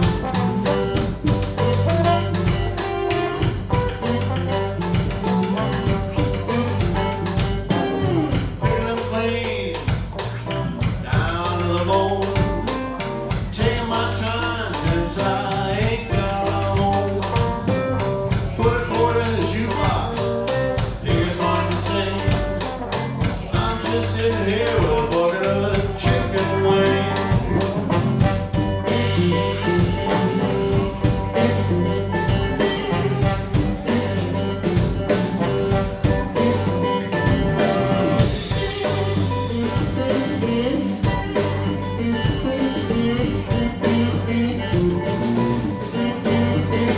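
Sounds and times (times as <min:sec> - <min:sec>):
live blues band playing: 0:00.0 - 0:46.9.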